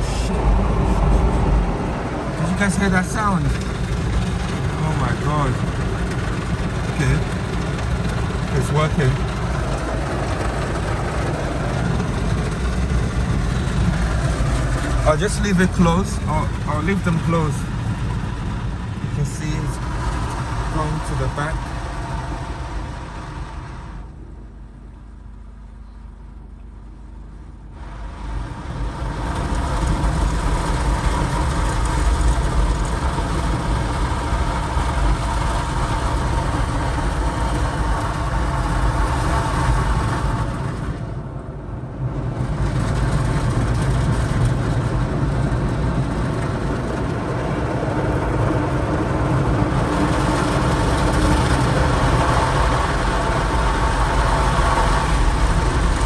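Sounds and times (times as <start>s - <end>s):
car wash rushing: 0.0s - 25.6s, 26.4s - 56.0s
low rumble: 0.0s - 56.0s.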